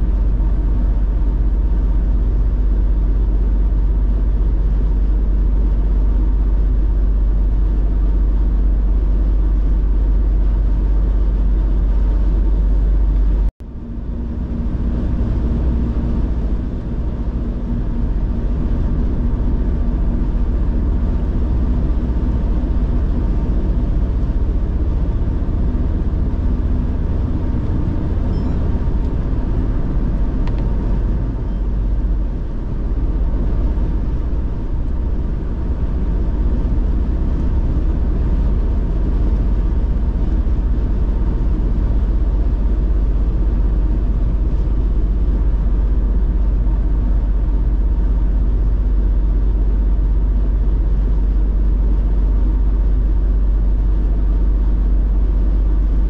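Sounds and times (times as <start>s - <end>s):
car driving on highway: 0.0s - 55.6s
faint steady hum: 0.0s - 56.0s.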